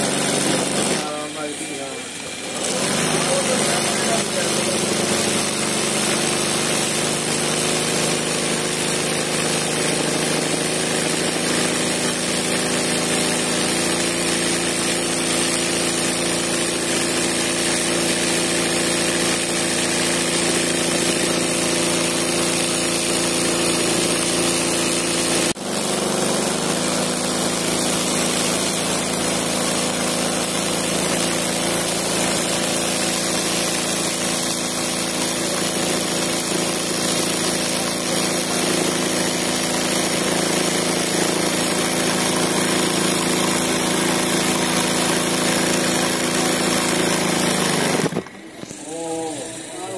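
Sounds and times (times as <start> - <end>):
sewing machine stitching: 0.0 - 49.9.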